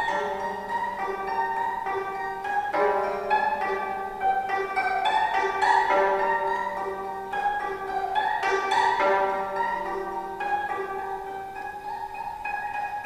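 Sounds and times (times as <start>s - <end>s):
plucked zither strings: 0.0s - 13.0s.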